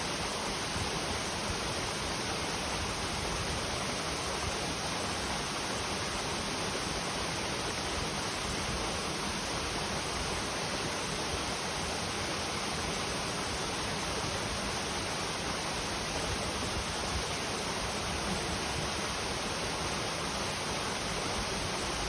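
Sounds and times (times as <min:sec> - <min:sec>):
mountain stream flowing: 0:00.0 - 0:22.0.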